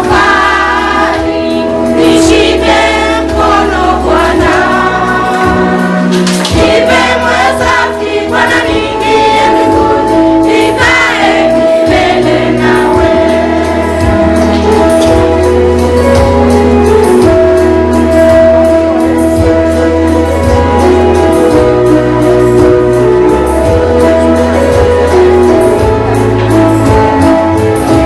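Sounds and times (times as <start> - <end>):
choir singing gospel music: 0.0 - 28.0.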